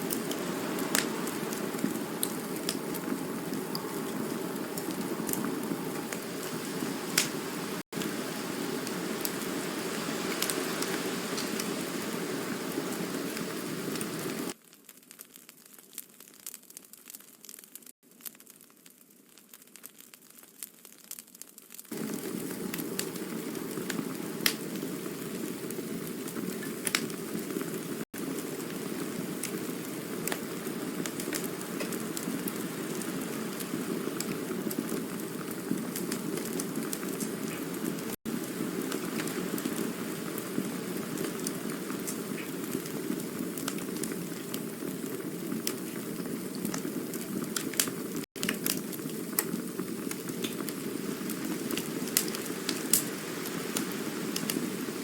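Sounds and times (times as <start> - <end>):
campfire hissing: 0.0 - 14.6, 21.8 - 55.0
fire crackling and popping: 0.0 - 55.0.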